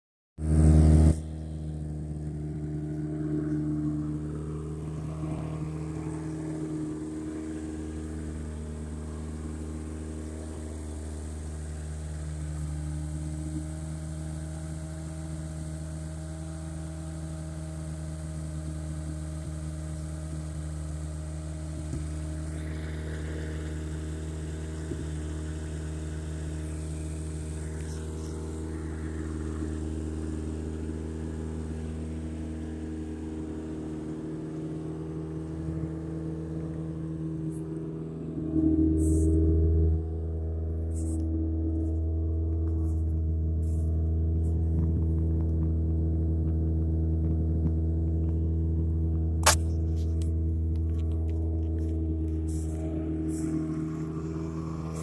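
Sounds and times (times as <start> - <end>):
car engine idling: 0.4 - 55.0.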